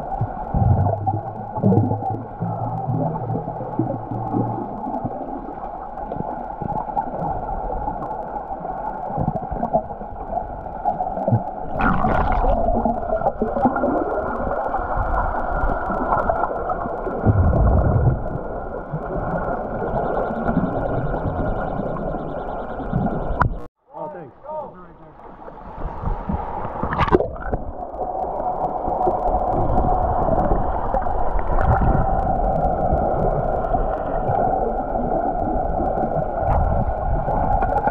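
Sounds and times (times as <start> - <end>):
muffled underwater water wash: 0.0 - 23.7, 24.9 - 37.9.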